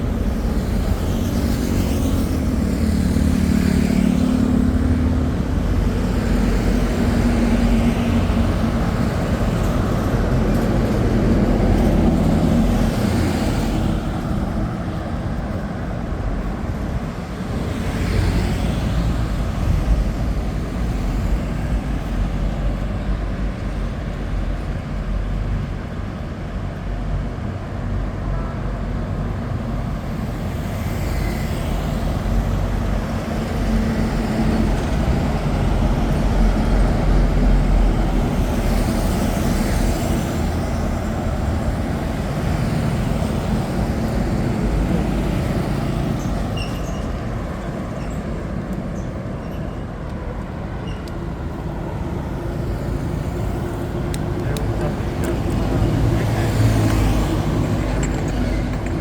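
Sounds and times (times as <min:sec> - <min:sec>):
passing cars and motorbikes: 0:00.0 - 0:59.0.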